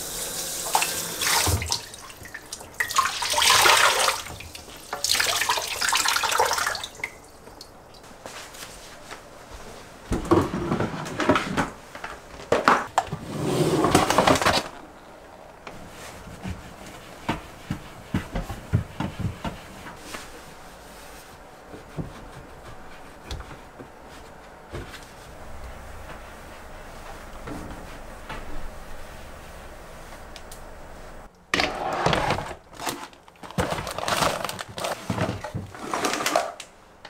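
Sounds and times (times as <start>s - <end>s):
items rustling and clattering: 6.6s - 37.0s.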